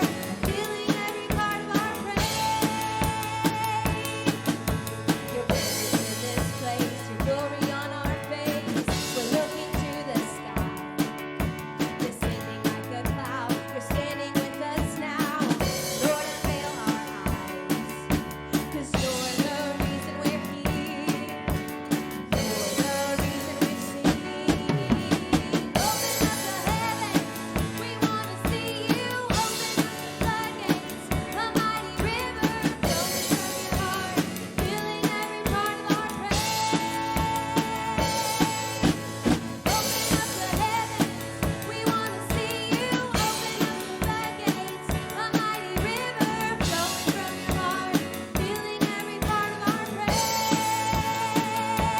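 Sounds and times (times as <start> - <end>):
drum kit beat: 0.0 - 51.9
live band playing: 0.0 - 51.9.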